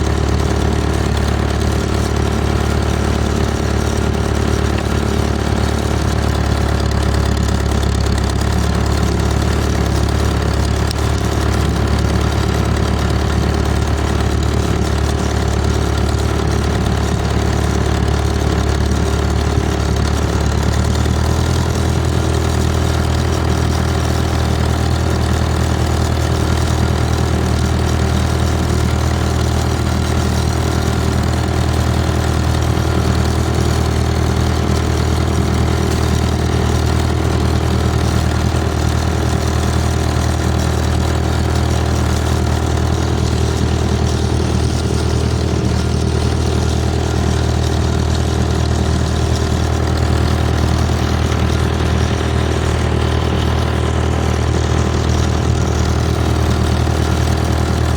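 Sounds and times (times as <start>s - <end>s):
tractor engine idling: 0.0s - 57.9s.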